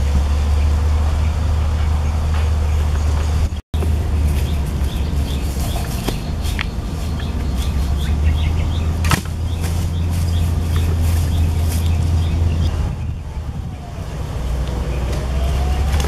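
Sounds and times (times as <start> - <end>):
birds chirping: 0.0 - 16.0
wind rumble on microphone: 0.0 - 16.0.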